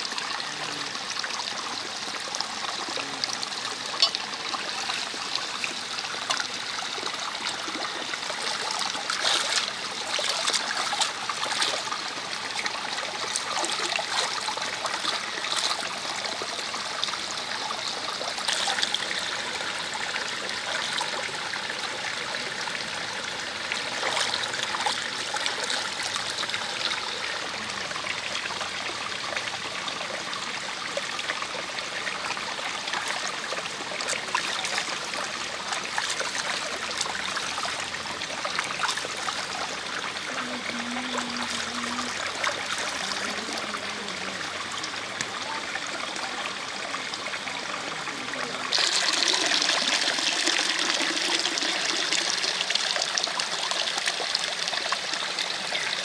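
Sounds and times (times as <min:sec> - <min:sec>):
water splashing and dripping: 0:00.0 - 0:22.8, 0:23.4 - 0:56.0
water trickling into pool: 0:00.0 - 0:56.0.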